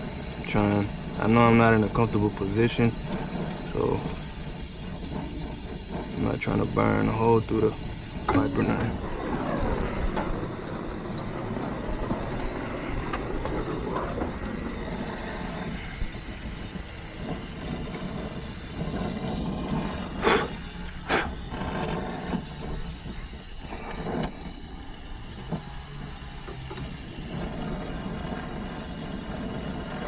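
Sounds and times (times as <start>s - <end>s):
brazing torch burning: 0.0s - 30.0s.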